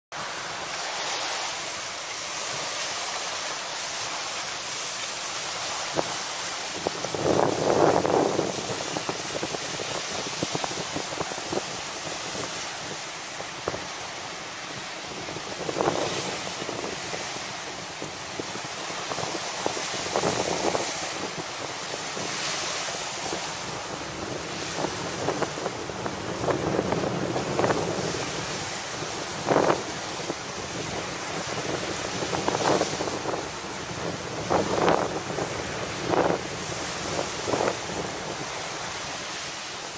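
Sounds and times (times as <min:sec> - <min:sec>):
surf breaking: 0:00.1 - 0:39.9
wind buffeting microphone: 0:02.2 - 0:39.9.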